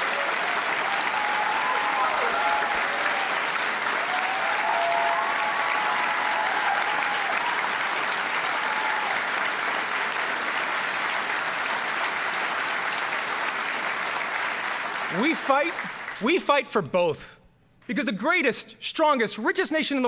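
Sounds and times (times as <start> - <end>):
people cheering: 0.0 - 16.4
audience applauding: 0.0 - 16.6.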